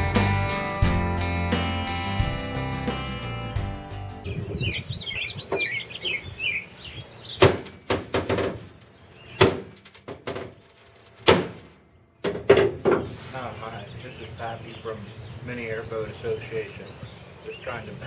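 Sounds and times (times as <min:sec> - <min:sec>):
birds chirping: 0:02.2 - 0:10.9, 0:11.9 - 0:18.0.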